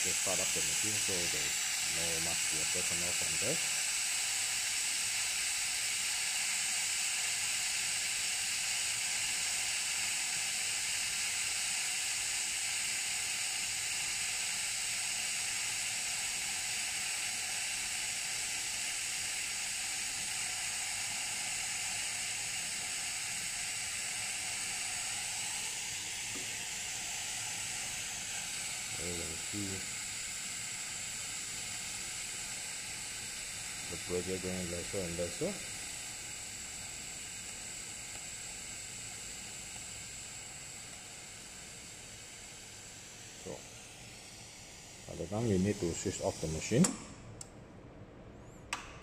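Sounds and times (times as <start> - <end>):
espresso machine pressure hiss: 0.0 - 47.2.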